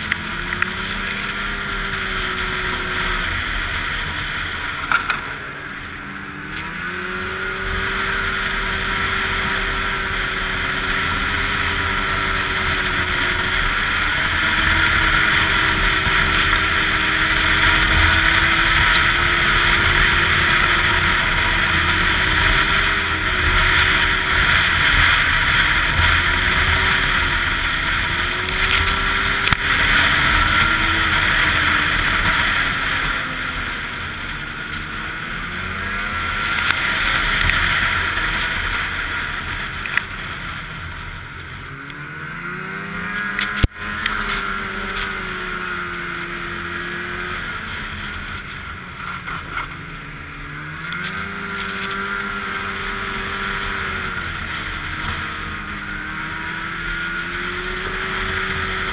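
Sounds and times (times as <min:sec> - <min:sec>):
snowmobile engine running: 0:00.0 - 0:58.9.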